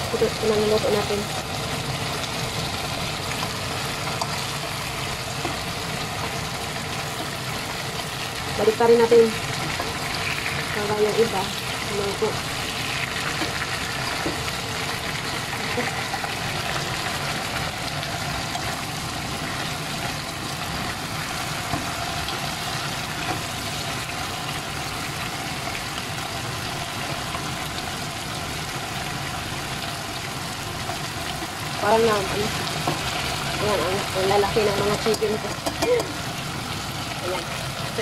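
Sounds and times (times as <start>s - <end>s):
chicken wings sizzling in a pot: 0.0s - 38.0s.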